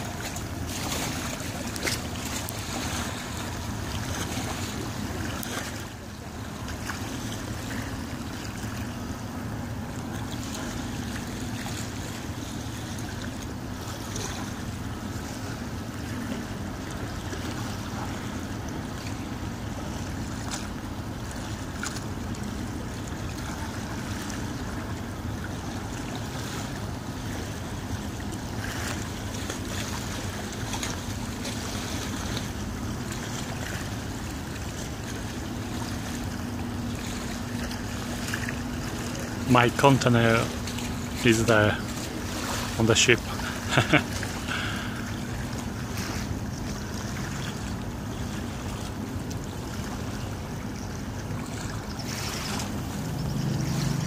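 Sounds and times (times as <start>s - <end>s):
ship engines droning: 0.0s - 54.0s
small waves lapping: 0.0s - 54.0s.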